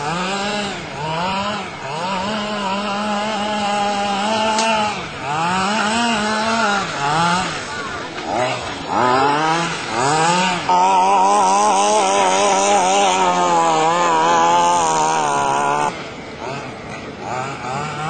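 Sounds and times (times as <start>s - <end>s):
small two-stroke engine revving: 0.0s - 18.0s.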